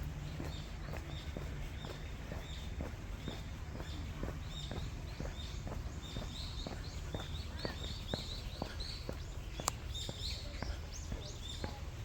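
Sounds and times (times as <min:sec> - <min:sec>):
footsteps on a trail: 0:00.0 - 0:12.0.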